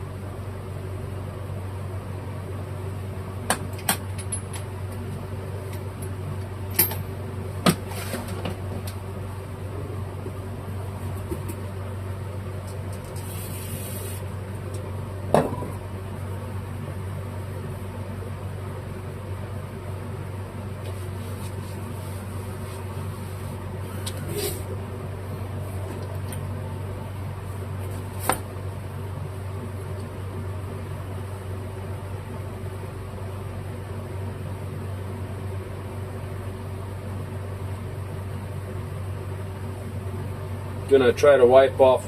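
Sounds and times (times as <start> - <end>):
low hum of running appliance: 0.0 - 42.0.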